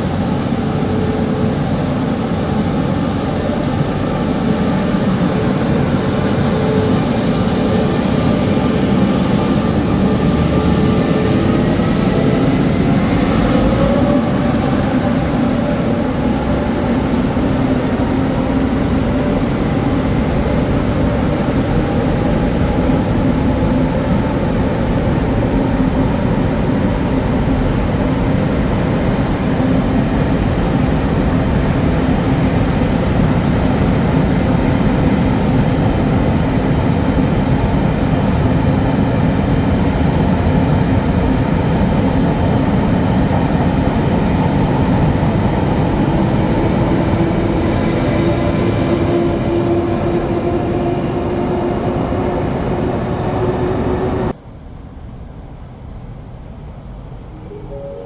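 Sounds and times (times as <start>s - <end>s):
constant humming note: 0.0s - 58.0s
train rumbling by: 0.0s - 58.0s.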